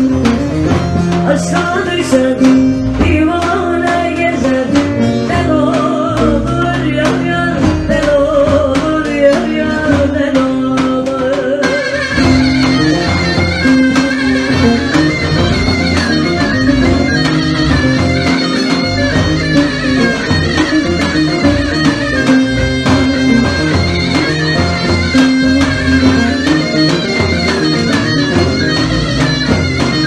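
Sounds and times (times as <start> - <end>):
instrumental folk music: 0.0 - 30.0.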